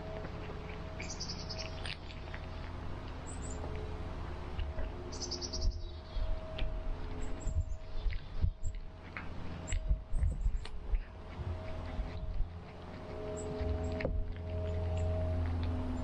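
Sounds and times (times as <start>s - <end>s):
small birds chirping: 0.0s - 3.8s, 4.6s - 16.0s
cat chewing: 0.0s - 5.3s, 6.2s - 16.0s
steady low rumble: 0.0s - 16.0s.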